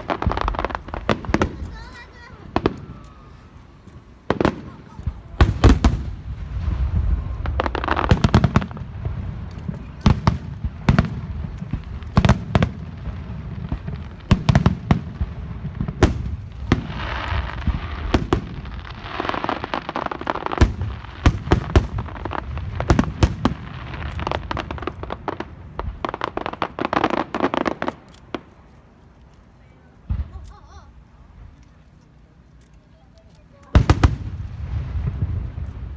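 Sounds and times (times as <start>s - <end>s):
fireworks bangs: 0.0s - 28.8s, 29.7s - 31.5s, 33.4s - 35.9s
fireworks crackling: 0.0s - 35.9s.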